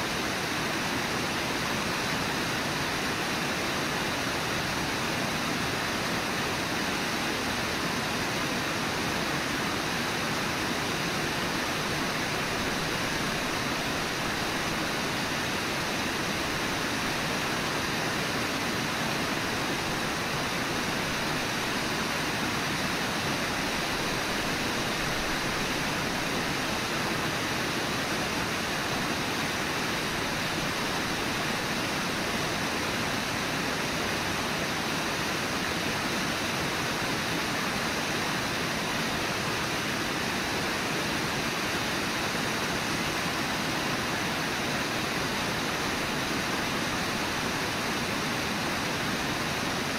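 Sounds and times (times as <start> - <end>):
river water flowing: 0.0 - 49.9.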